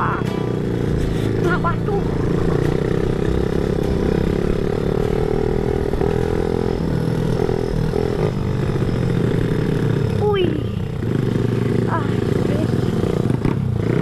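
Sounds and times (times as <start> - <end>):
small dirt bike engine running: 0.0 - 14.0.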